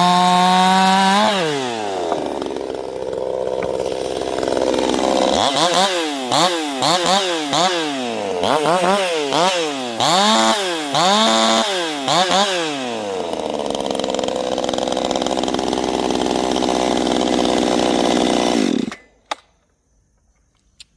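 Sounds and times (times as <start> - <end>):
chainsaw revving and idling: 0.0 - 19.1.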